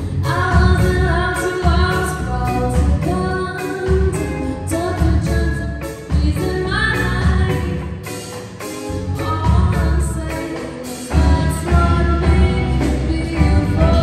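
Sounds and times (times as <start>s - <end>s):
electric bass: 0.0s - 7.9s, 8.8s - 14.0s
drum kit beat: 0.0s - 14.0s
electric guitars: 0.0s - 14.0s
woman singing lead vocal: 0.0s - 14.0s.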